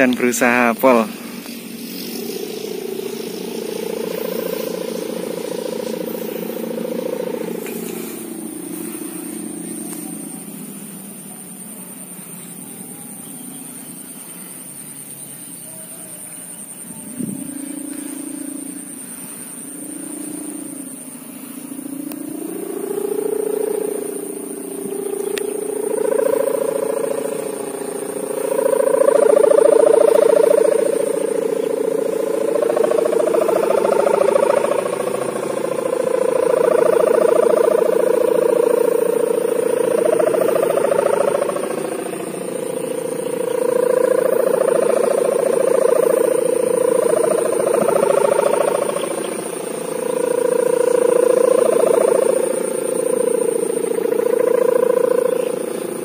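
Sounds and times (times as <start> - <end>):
humming bow droning in wind: 0.0 - 56.0.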